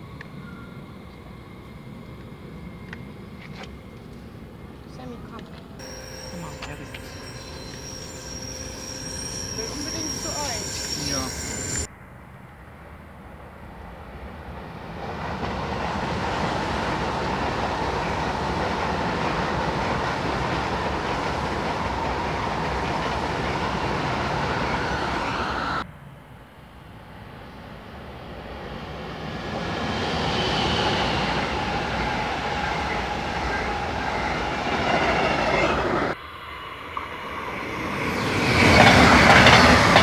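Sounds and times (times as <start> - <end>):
approaching train rail noise: 0.0 - 40.0
high-speed train rushing past: 0.0 - 40.0.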